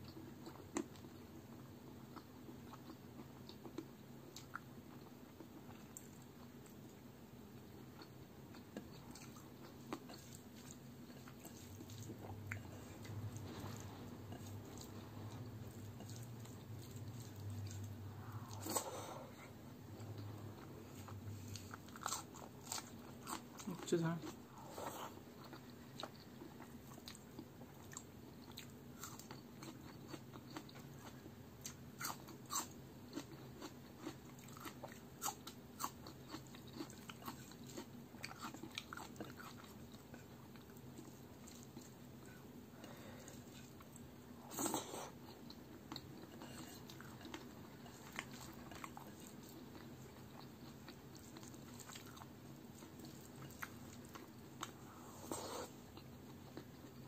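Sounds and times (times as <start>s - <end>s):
person chewing wetly: 2.1s - 6.8s, 7.9s - 57.0s.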